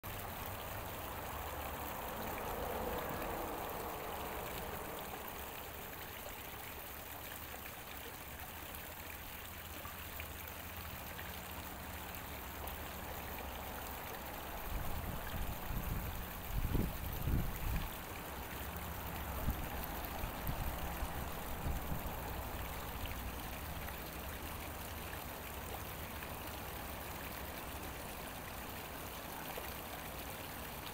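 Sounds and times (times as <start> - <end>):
creek water running over rocks: 0.0 - 30.9.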